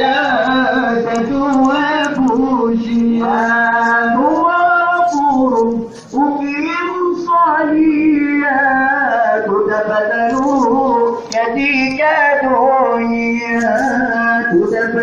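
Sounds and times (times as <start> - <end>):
group of men and boys singing: 0.0 - 15.0
singer on a microphone: 0.0 - 15.0.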